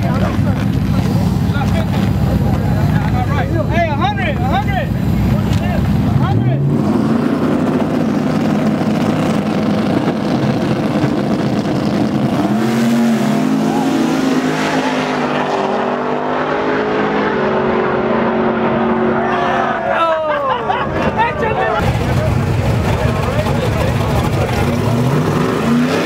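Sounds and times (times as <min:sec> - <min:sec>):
pickup engine accelerating: 0:00.0 - 0:19.9, 0:20.9 - 0:26.0.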